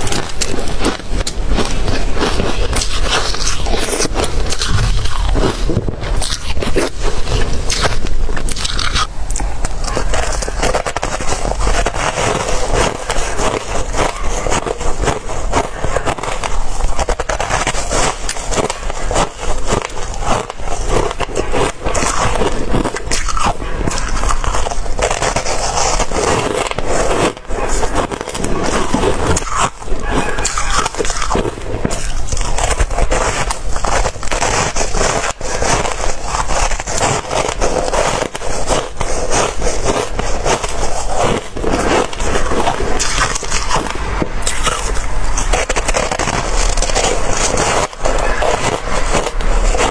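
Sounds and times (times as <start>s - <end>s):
ice crunching between teeth: 0.0s - 49.9s.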